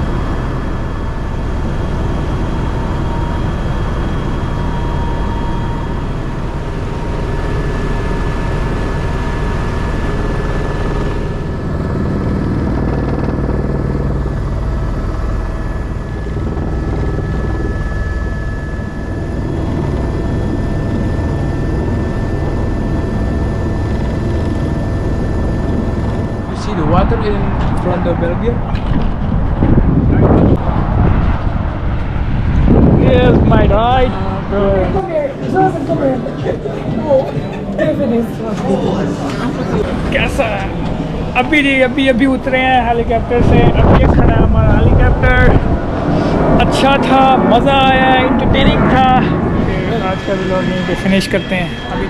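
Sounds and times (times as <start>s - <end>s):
helicopter rotor beating: 0.0s - 52.0s
turbine whine: 0.0s - 52.0s.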